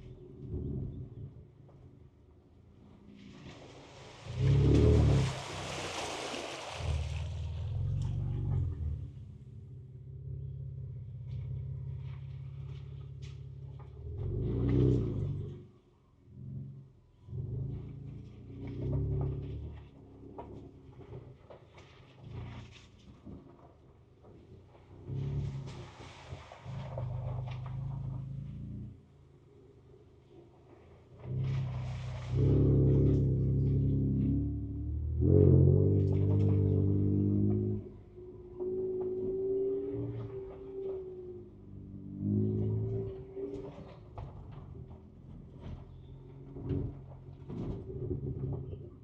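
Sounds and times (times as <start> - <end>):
vehicle engine humming: 0.0 - 23.0, 26.7 - 49.0.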